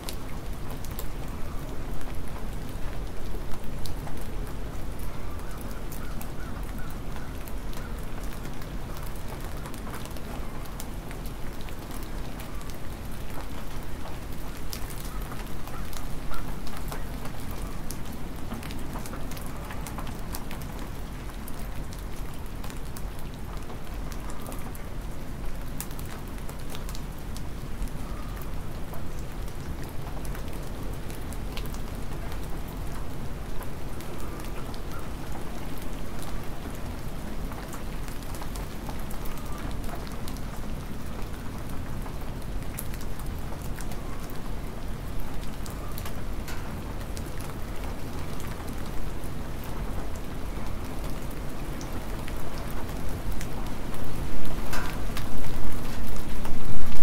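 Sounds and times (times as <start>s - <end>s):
hard rain falling steadily: 0.0s - 57.0s
raindrops ticking on surfaces: 0.0s - 57.0s.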